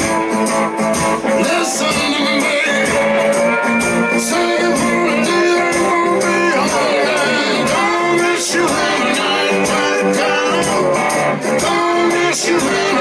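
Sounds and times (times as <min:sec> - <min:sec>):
blues-rock band playing: 0:00.0 - 0:13.0
person singing: 0:01.2 - 0:13.0.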